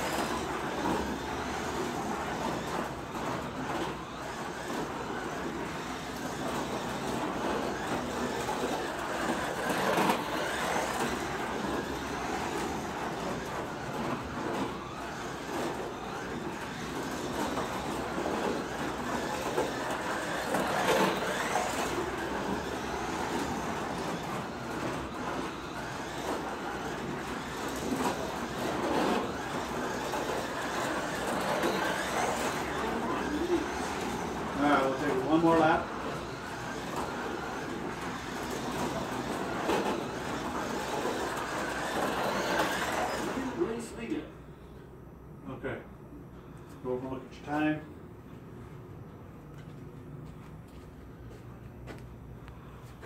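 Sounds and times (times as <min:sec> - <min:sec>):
slot car motor whirring: 0:00.0 - 0:45.8.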